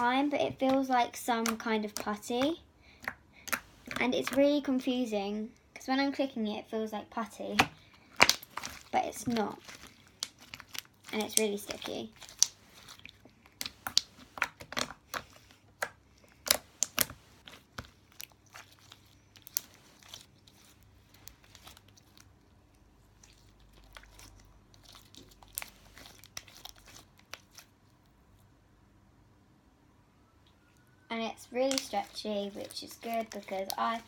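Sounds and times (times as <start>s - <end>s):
slime clicking and crackling: 0.0s - 4.6s, 7.5s - 28.0s, 31.5s - 34.0s.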